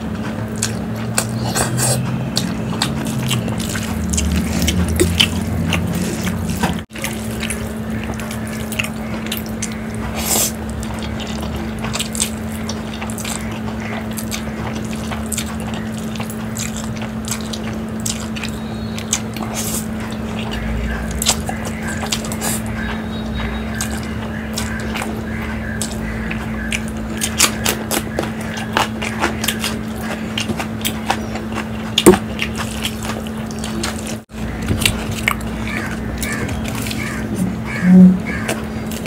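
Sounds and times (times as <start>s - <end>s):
person slurping and chewing noodles: 0.0s - 39.0s
steady low hum: 0.0s - 39.0s.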